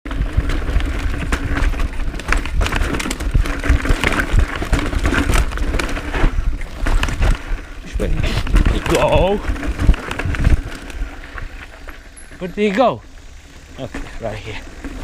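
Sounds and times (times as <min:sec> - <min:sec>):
bike rattles and knocks: 0:00.1 - 0:15.0
bike tyres rumbling over rocks: 0:00.1 - 0:15.0.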